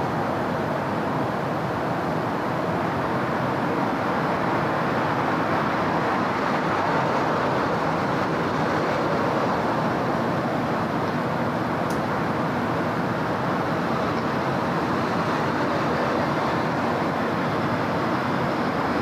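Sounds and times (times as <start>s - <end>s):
passing vehicles and tyre noise: 0.0s - 19.0s.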